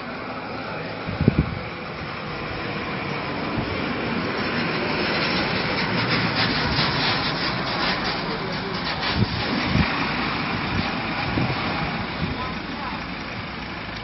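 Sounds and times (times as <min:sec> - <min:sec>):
fire rushing: 0:00.0 - 0:14.0
fire crackling: 0:01.5 - 0:14.0.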